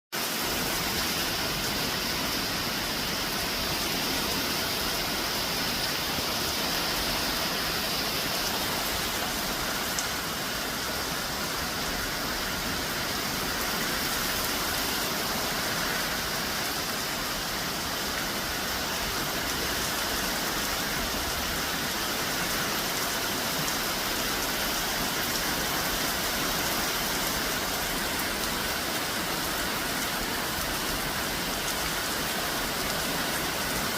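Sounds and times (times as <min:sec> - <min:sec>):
heavy rain pattering: 0:00.2 - 0:33.9.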